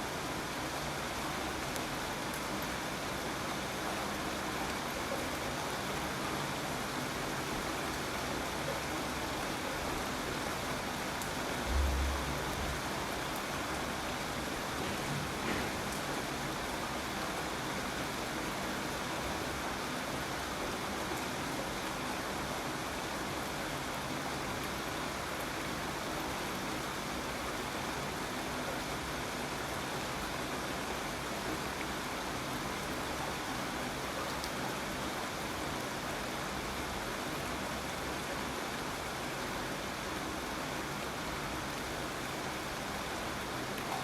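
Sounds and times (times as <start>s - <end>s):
steady rainfall: 0.0s - 44.0s.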